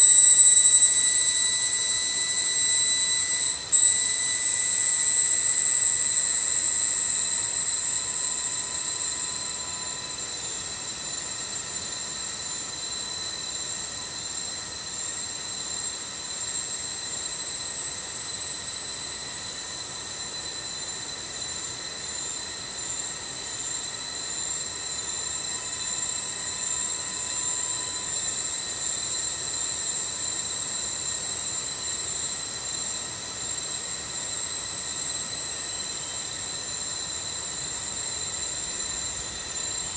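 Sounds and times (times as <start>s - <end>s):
insects droning shrilly: 0.0s - 39.9s.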